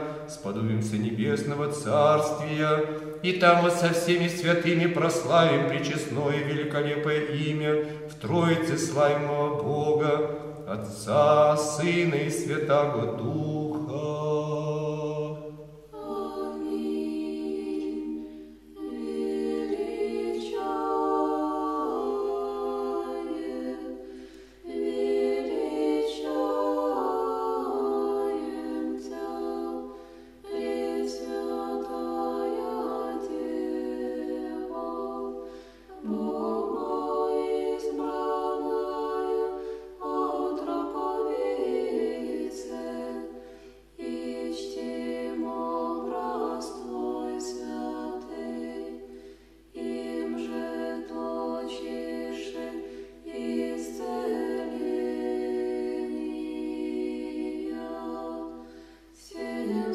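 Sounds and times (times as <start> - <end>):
church choir chanting: 0.0 - 59.9.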